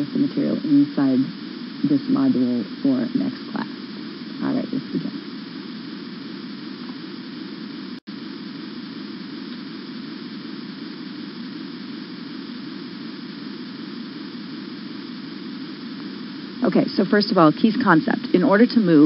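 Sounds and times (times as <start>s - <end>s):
background hiss and hum: 0.0s - 19.0s.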